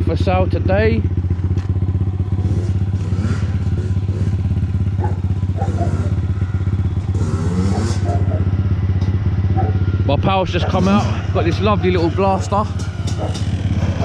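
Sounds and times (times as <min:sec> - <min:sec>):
small engine idling: 0:00.0 - 0:14.0.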